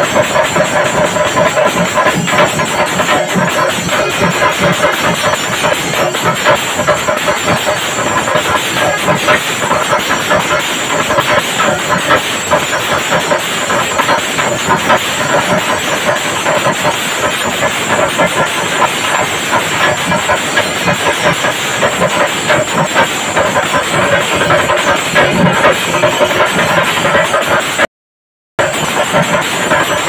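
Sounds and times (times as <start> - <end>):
drums beaten with sticks: 0.0 - 27.9, 28.6 - 30.0.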